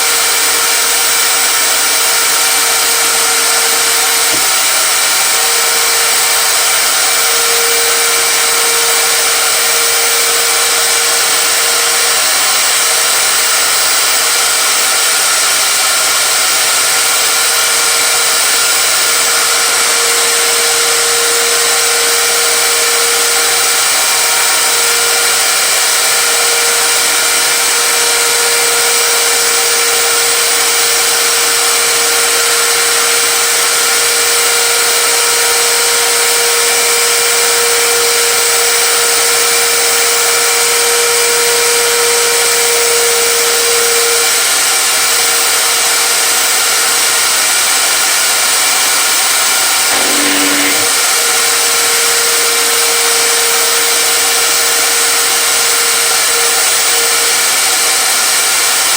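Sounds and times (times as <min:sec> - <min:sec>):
electric power tool motor running: 0:00.0 - 0:40.8, 0:47.4 - 0:58.9.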